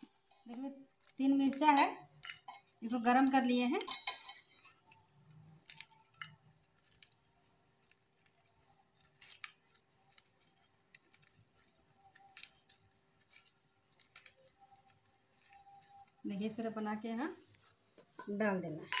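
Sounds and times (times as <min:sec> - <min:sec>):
dried chillies crackling in a bowl: 0:00.0 - 0:19.0.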